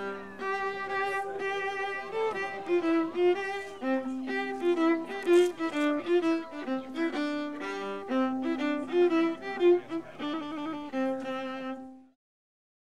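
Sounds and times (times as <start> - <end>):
violin led string music: 0.0 - 12.2.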